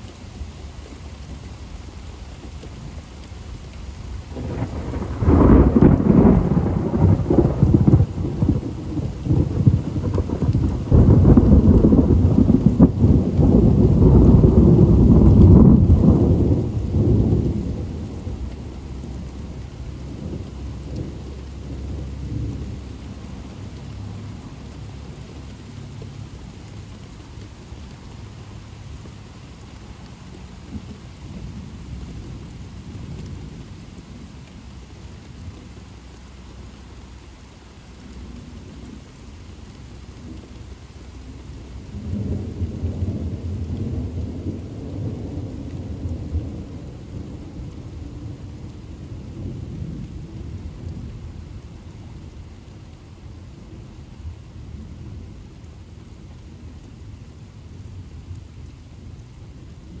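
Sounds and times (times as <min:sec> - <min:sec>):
steady rain: 0:00.0 - 1:00.0
thunder rumbling: 0:00.0 - 1:00.0.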